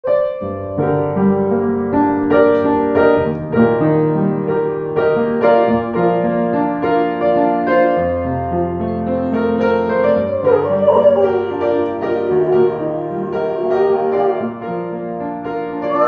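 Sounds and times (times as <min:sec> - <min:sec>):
piano playing slow pop ballad: 0:00.1 - 0:16.0.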